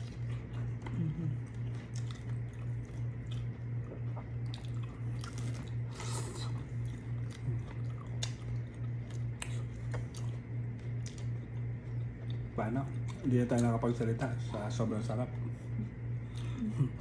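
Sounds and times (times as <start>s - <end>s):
crunching fried food: 0.0s - 13.9s
steady low hum: 0.0s - 17.0s.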